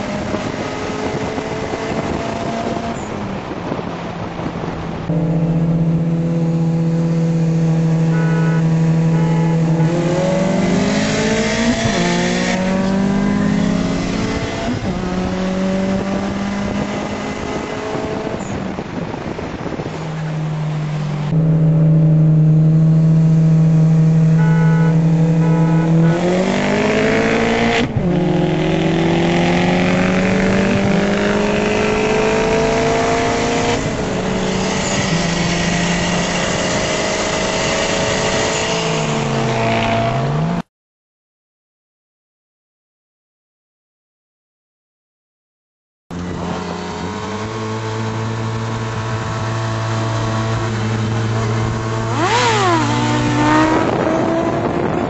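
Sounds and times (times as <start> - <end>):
car engine accelerating: 4.5 - 40.6, 46.1 - 55.0.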